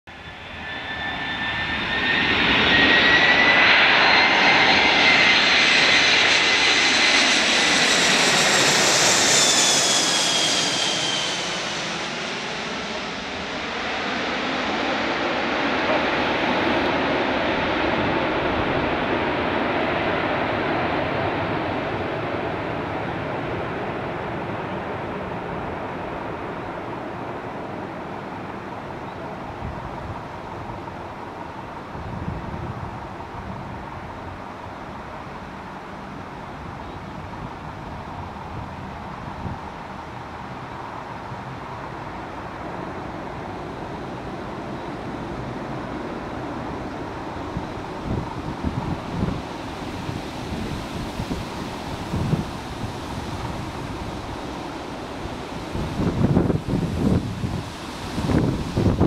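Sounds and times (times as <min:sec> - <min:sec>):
jet airliner passing overhead: 0:00.1 - 0:59.0.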